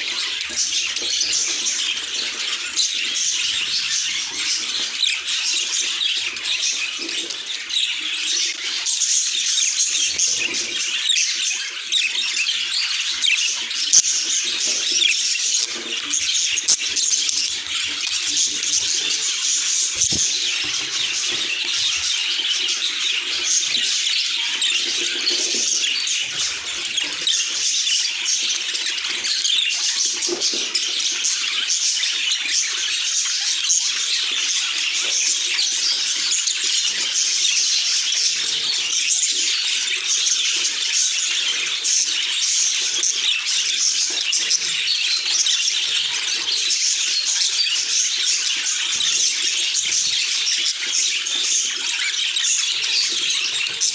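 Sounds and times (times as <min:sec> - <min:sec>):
budgerigars chattering: 0:00.0 - 0:53.9.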